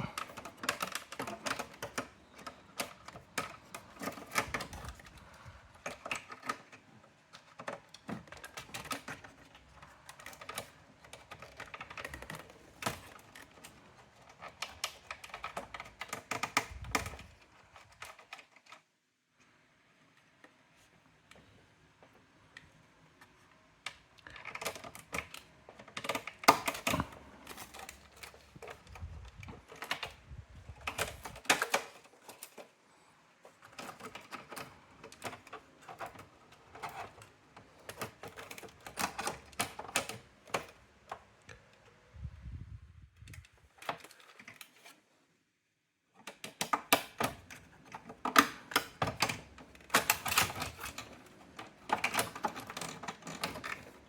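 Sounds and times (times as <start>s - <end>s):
typewriter clicks and rattles: 0.0s - 18.8s, 23.9s - 32.7s, 33.5s - 41.4s, 46.2s - 54.0s.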